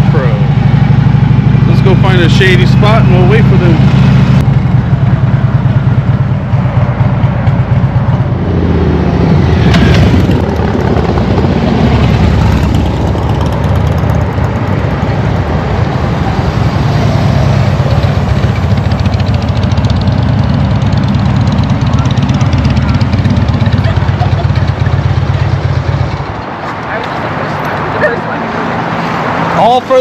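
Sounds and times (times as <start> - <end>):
motorcycle engine running: 0.0 - 28.6.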